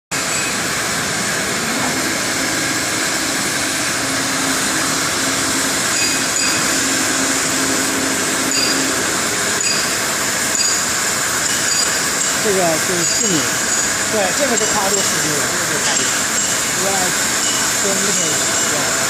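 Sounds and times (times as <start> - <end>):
cutting torch hissing: 0.2 - 19.0.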